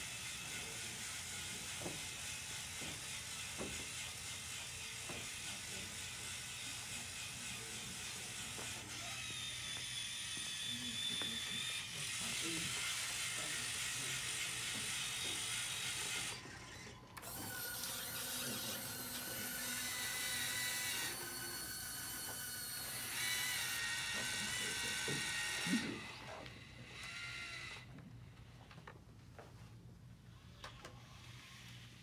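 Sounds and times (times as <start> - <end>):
small motors whirring with gear rattle: 0.0 - 28.0, 30.3 - 32.0.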